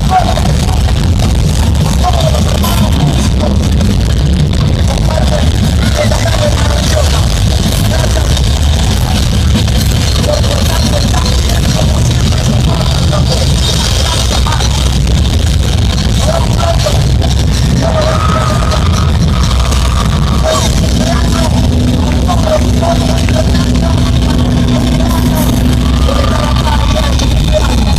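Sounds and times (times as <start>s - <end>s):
drums: 0.0s - 27.9s
heavy rock band playing: 0.0s - 27.9s.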